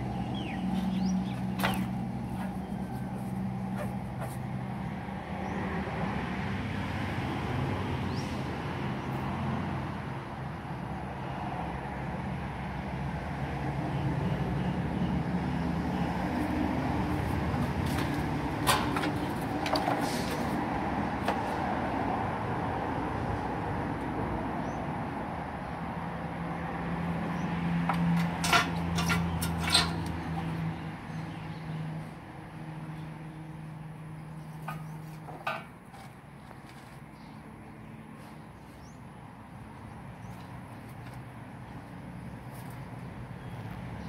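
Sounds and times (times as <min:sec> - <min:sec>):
engine humming: 0:00.0 - 0:11.1, 0:13.6 - 0:24.2, 0:25.6 - 0:44.0.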